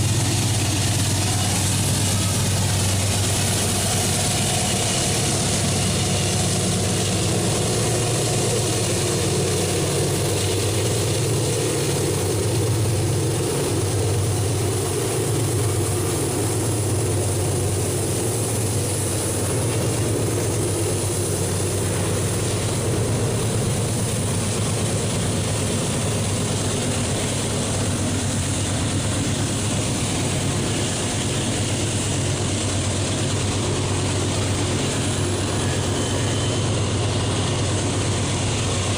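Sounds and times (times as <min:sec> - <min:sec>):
diesel locomotive engine drone: 0:00.0 - 0:38.9
train rolling rumble: 0:00.0 - 0:38.9.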